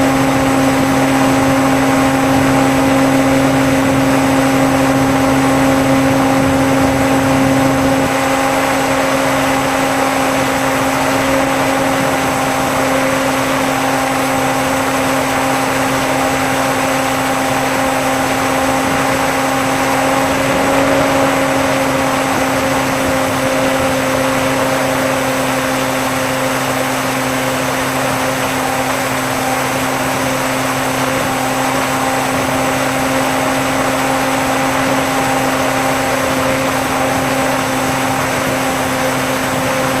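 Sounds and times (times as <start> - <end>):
electric motor and propeller hum: 0.0 - 40.0.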